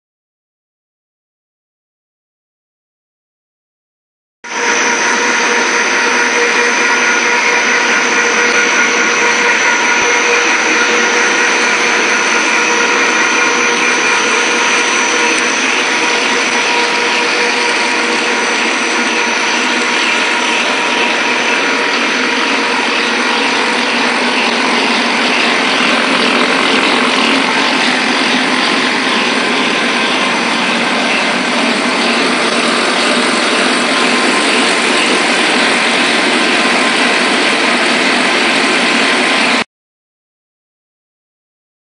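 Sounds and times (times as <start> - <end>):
high steady whining tones: 4.4 - 39.6
extrusion machinery whirring: 4.5 - 39.6.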